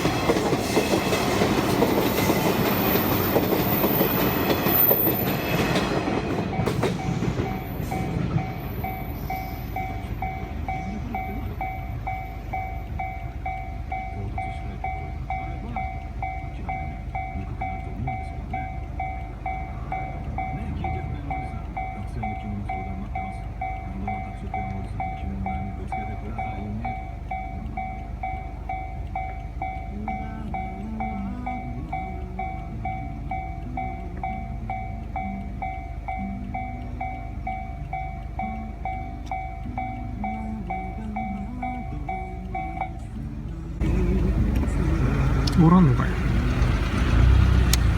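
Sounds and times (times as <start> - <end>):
train passing loudly: 0.0 - 43.1, 43.8 - 47.9
level crossing warning bell: 0.0 - 47.9
low rail rumble: 0.0 - 47.9.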